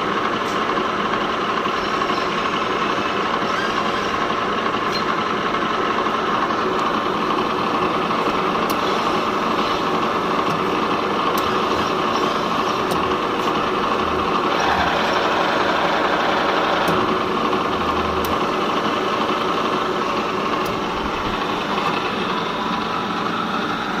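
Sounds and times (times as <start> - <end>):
rolling machine running: 0.0 - 24.0.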